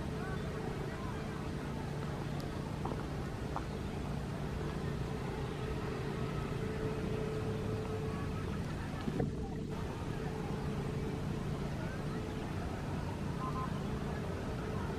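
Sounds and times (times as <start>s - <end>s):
engine drone: 0.0s - 14.9s.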